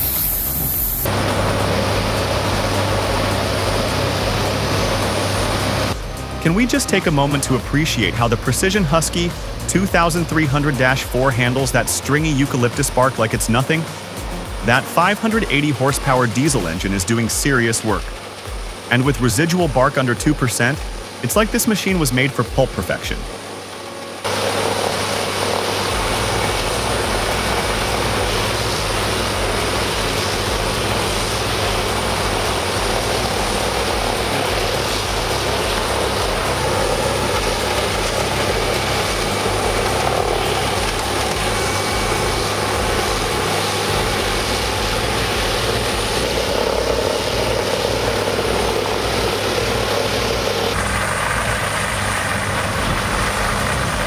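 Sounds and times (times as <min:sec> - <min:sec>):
diesel machine engine drone: 0:00.0 - 0:54.0.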